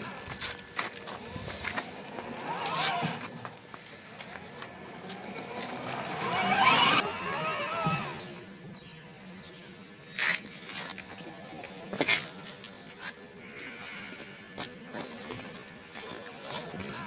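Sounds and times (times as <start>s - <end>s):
toy car wheels crunching on grit: 0.0s - 8.5s, 10.1s - 17.0s.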